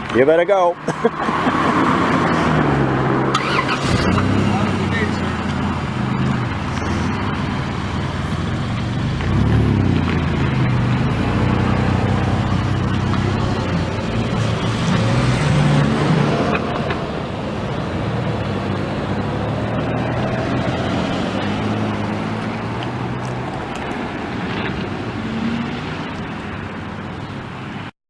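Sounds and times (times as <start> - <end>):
diesel locomotive engines rumbling: 0.8 - 27.4.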